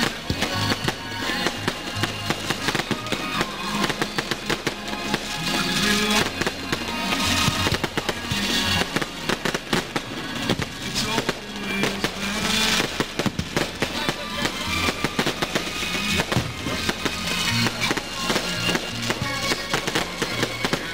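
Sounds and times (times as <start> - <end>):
fireworks bangs and crackles: 0.0 - 20.9
music playing: 0.0 - 20.9.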